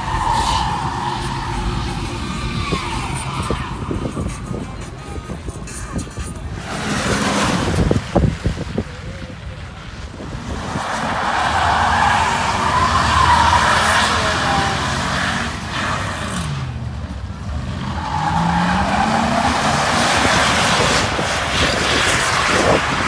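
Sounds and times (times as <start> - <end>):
tires squealing on pavement: 0.0 - 23.0
truck engine revving: 0.0 - 23.0.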